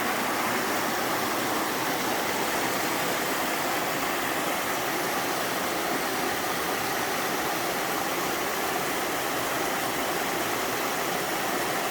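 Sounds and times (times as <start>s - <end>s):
waterfall rushing over rock: 0.0s - 11.9s.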